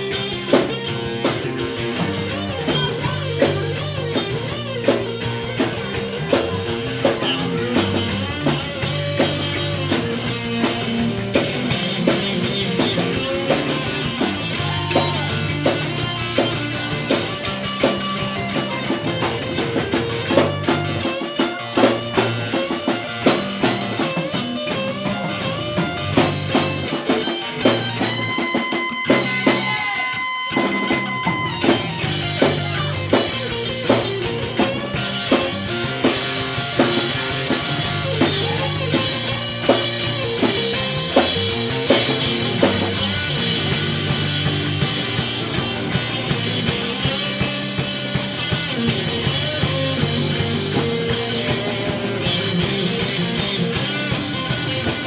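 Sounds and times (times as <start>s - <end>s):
bass guitar: 0.0s - 55.0s
drum kit: 0.0s - 55.0s
lead electric guitar: 0.0s - 55.0s.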